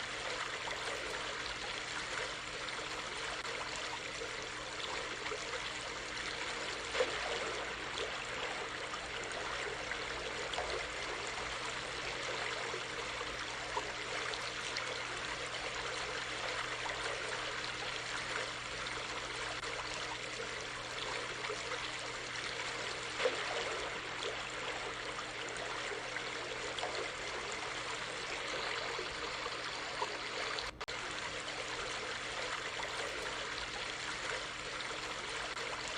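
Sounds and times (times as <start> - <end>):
stream babbling: 0.0 - 35.9
water splashes: 0.0 - 35.9.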